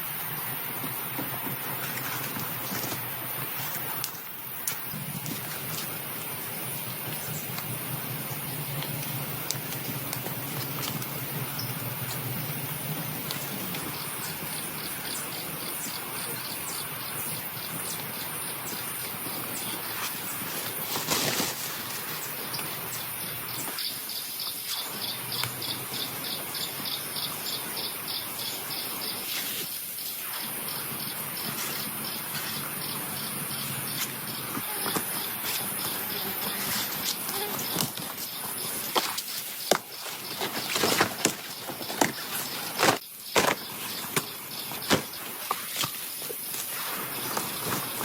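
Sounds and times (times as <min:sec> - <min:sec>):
steady rain hiss: 0:00.0 - 0:40.7, 0:44.3 - 0:48.0
insect chirping in rapid pulses: 0:00.0 - 0:48.0.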